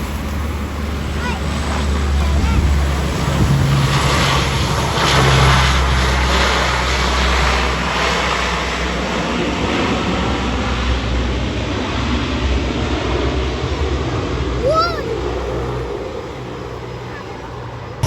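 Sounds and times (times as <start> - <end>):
aircraft engines rumbling: 0.0 - 18.0.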